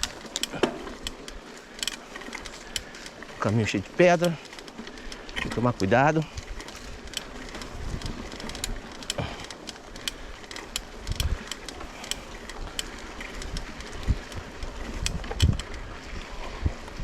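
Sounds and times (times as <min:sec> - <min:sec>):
footsteps on stony trail: 0:00.0 - 0:14.3.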